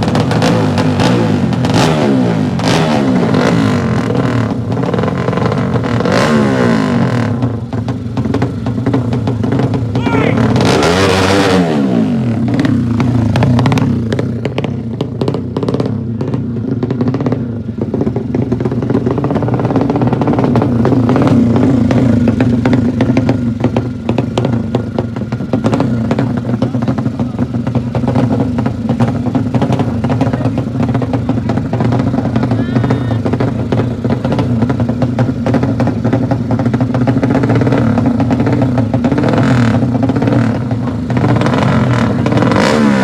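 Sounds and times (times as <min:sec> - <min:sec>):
motorcycle engines running: 0:00.0 - 0:43.0.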